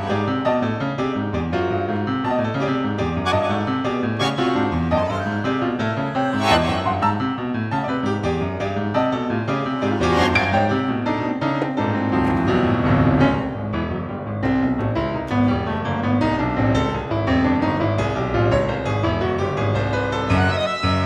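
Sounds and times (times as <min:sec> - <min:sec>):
tango instrumental music with piano: 0:00.0 - 0:21.0.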